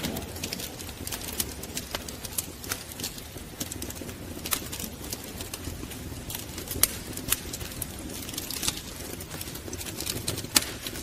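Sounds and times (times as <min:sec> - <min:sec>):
rumble of flames: 0:00.0 - 0:11.0
wood fire crackling: 0:00.0 - 0:11.0.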